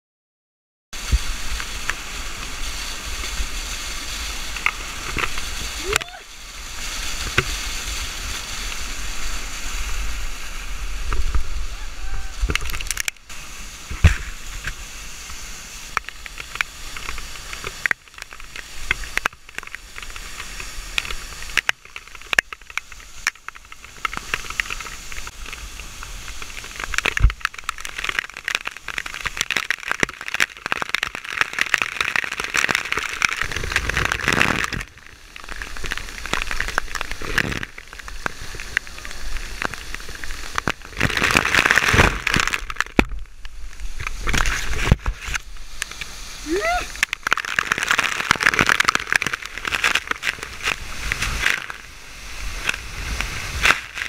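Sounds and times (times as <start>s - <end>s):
waterfall rushing: 1.0s - 54.0s.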